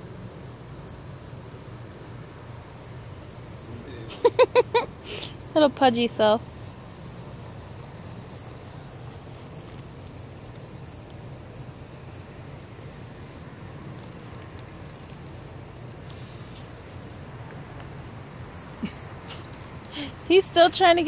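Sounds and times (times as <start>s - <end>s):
cricket chirping: 0.0s - 21.0s.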